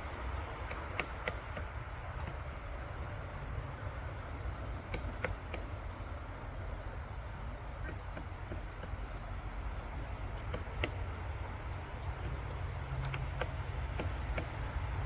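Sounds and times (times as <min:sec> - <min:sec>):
woodpecker pecking bark: 0:00.0 - 0:15.0.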